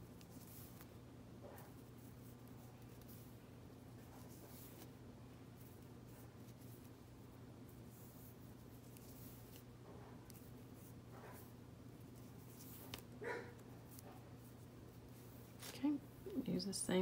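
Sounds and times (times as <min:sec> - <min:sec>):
cord rustling and rubbing: 0:00.0 - 0:16.4
low room hum: 0:00.0 - 0:17.0.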